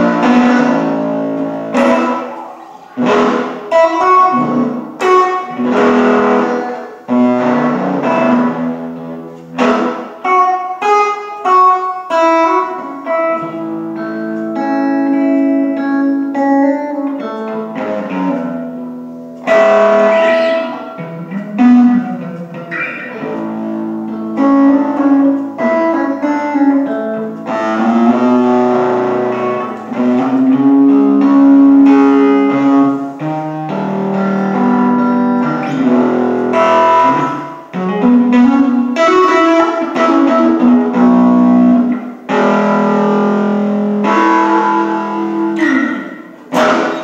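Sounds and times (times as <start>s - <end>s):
electric guitar through amp: 0.0s - 47.0s.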